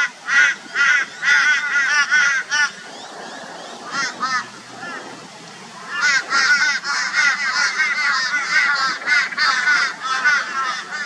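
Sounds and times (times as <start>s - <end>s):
crows calling harshly: 0.2s - 2.8s, 3.8s - 5.0s, 5.9s - 11.0s.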